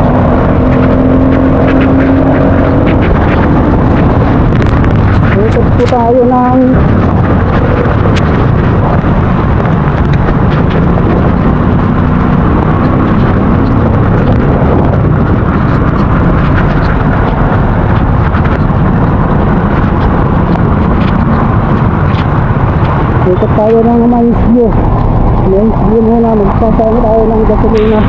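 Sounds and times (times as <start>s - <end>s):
vehicle engine running: 0.0s - 28.0s
wind and rain on microphone: 0.0s - 28.0s.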